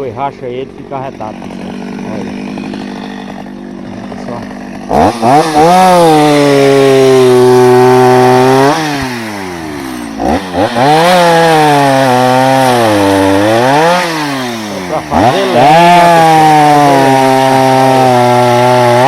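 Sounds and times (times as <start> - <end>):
chainsaw cutting wood: 0.0 - 19.0
chainsaw idling: 0.0 - 19.0.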